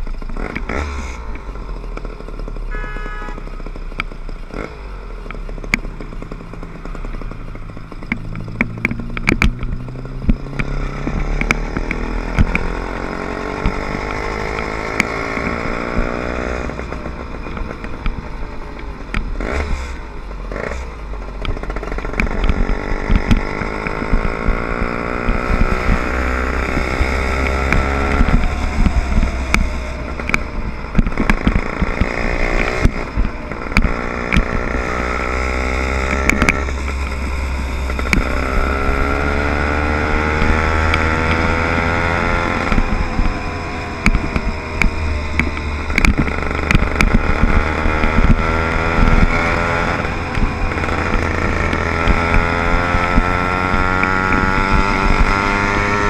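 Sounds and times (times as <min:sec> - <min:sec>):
sharp rattles and clicks: 0:00.0 - 0:56.0
small motorbike engine accelerating: 0:00.0 - 0:56.0.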